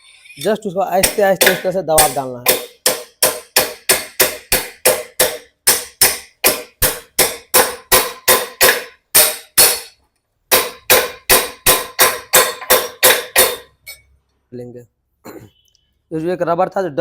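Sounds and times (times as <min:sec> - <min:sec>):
hammer striking metal: 0:00.1 - 0:14.1.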